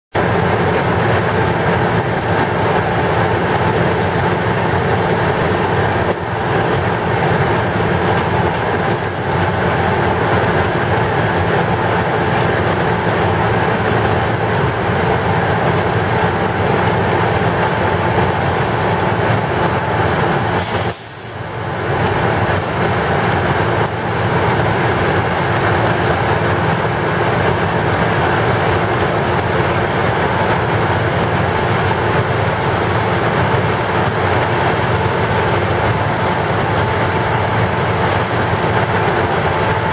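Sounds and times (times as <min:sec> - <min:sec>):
heavy track-repair machinery running: 0:00.1 - 0:39.9.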